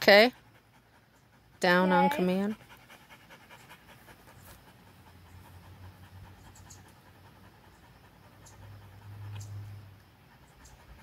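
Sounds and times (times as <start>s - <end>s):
dog panting softly: 0.0s - 11.0s.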